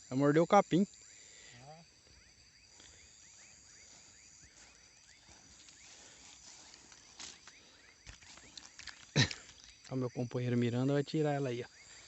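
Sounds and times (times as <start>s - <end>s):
crickets trilling: 0.0s - 12.0s
insects chirping: 0.0s - 12.0s.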